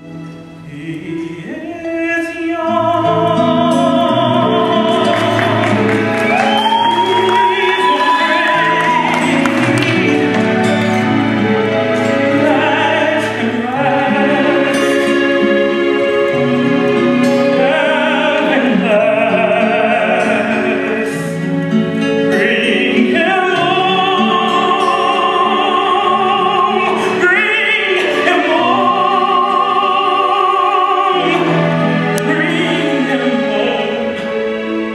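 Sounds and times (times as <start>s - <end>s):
instrumental accompaniment: 0.0s - 34.9s
man singing with vibrato: 0.0s - 34.9s.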